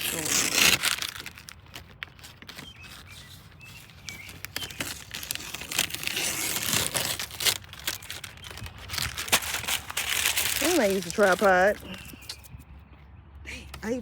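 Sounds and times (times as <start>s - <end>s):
paper and tape tearing: 0.0s - 12.5s.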